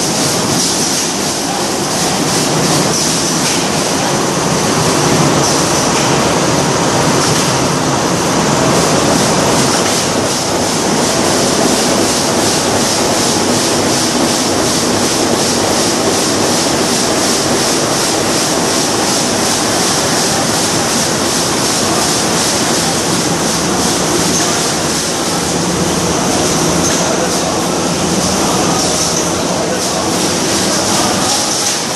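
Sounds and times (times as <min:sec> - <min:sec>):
embroidery machine clattering: 0:00.0 - 0:31.9.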